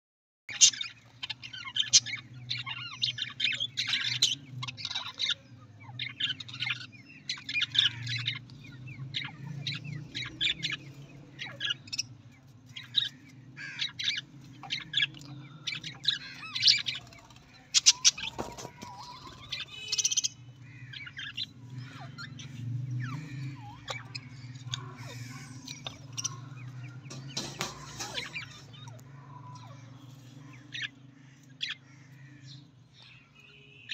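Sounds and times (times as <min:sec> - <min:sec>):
budgerigars chattering: 0:00.5 - 0:33.9.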